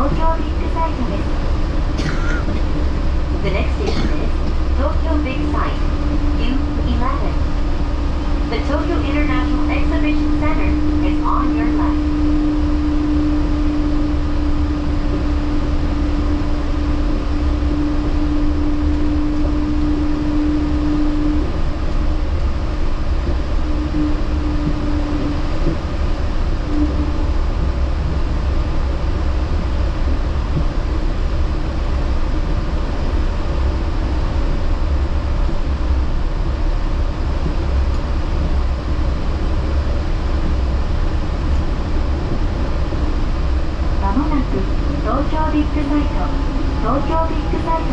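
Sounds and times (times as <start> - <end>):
steady hum: 0.0 - 47.9
train running low rumble: 0.0 - 47.9.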